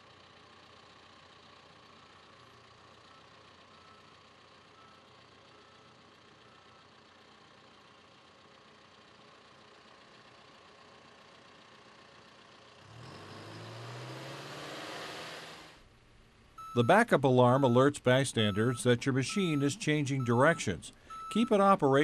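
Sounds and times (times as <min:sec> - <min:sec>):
diesel engine idling: 0:00.0 - 0:14.4, 0:15.6 - 0:22.0.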